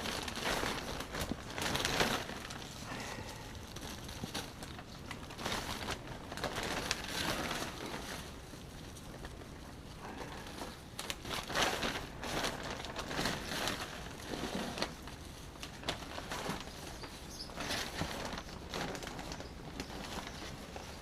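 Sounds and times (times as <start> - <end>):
soil scraping and rustling: 0.0 - 21.0.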